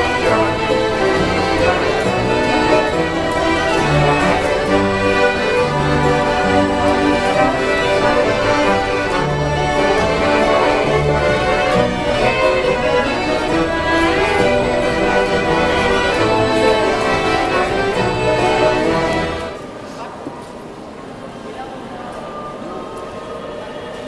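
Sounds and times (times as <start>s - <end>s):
live instrumental music: 0.0s - 19.6s.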